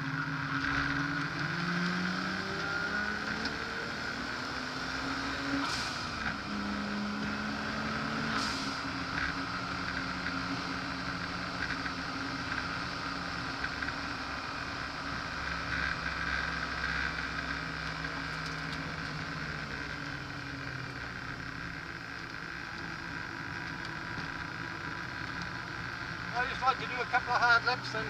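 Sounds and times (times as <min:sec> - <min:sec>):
car engine running: 0:00.0 - 0:28.0
road and wind noise: 0:00.0 - 0:28.0.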